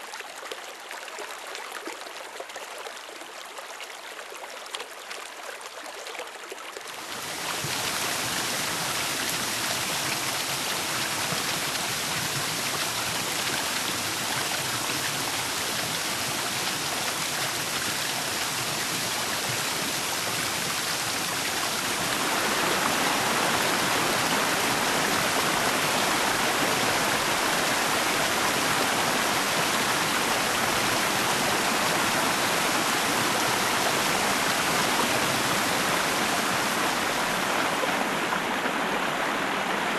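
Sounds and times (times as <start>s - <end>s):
stream water rushing: 6.9s - 39.9s.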